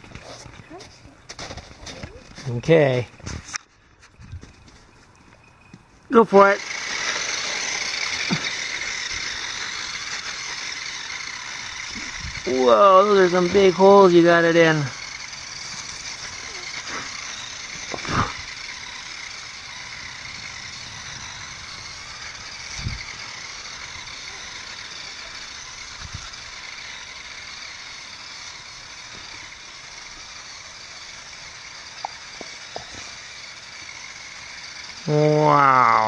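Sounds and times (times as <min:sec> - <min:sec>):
small electric motor whirring: 0:00.0 - 0:36.0.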